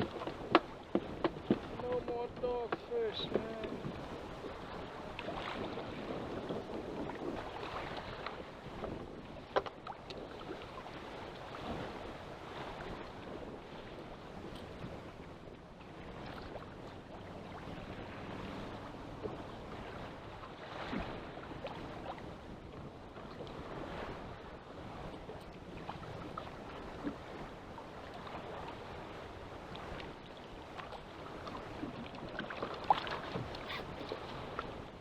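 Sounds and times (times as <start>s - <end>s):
water lapping against kayak: 0.0s - 35.0s
wind: 0.0s - 35.0s.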